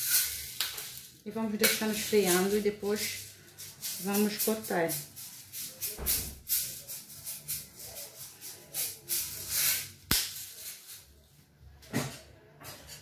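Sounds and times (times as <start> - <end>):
shaker container rattling: 0.0 - 11.1.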